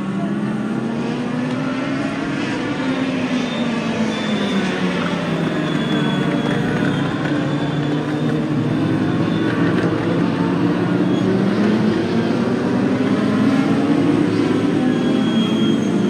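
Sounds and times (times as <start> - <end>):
racing car engine at speed: 0.0 - 16.0.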